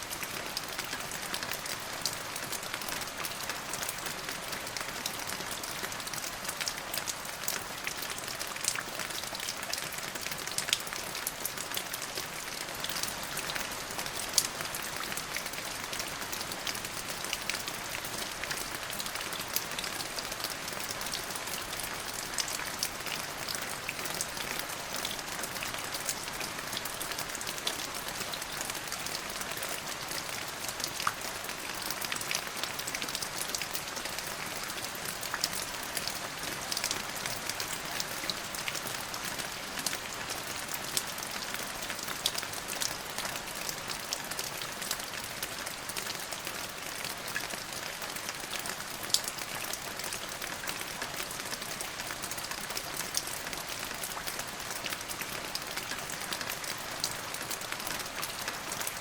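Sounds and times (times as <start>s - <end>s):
raindrops striking a surface: 0.0s - 59.0s
steady rain: 0.0s - 59.0s.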